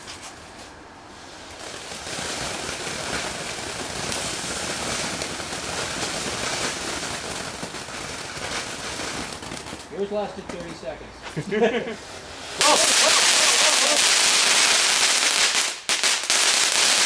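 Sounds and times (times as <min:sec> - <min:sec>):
firework fountain hissing crackle: 0:00.0 - 0:17.0.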